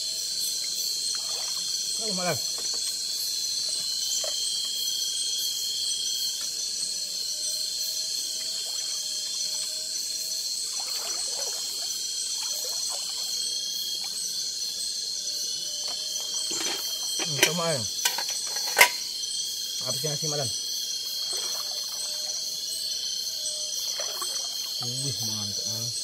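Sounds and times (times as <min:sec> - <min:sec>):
frogs trilling: 0:00.0 - 0:26.0
insects buzzing: 0:00.0 - 0:26.0.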